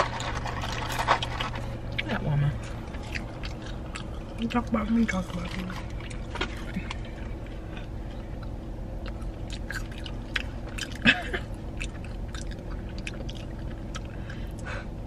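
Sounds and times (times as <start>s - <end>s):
person chewing food: 0.0s - 4.6s, 5.4s - 14.7s.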